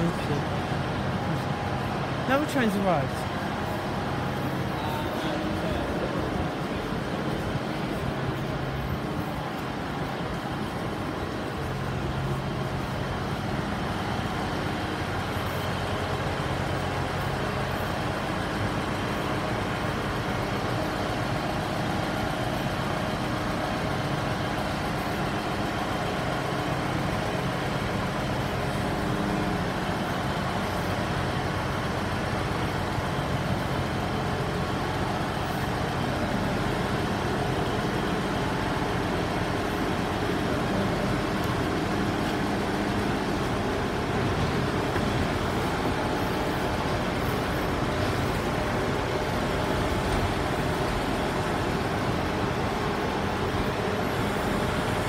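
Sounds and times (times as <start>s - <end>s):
train diesel engine idling: 0.0s - 55.0s.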